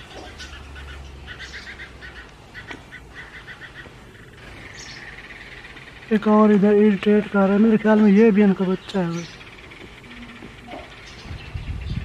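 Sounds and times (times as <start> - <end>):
sparrow chicks chirping: 0.0 - 12.0.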